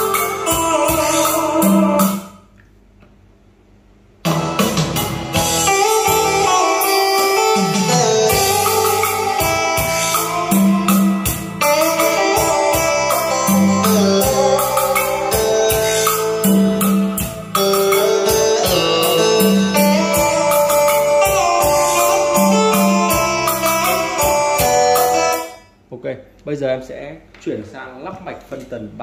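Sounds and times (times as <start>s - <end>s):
music with drums bass and plucked strings: 0.0s - 2.3s, 4.2s - 25.6s.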